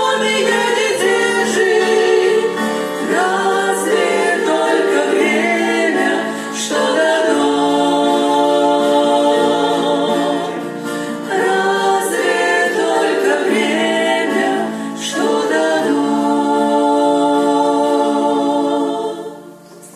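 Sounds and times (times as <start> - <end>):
choir singing in harmony: 0.0 - 19.9.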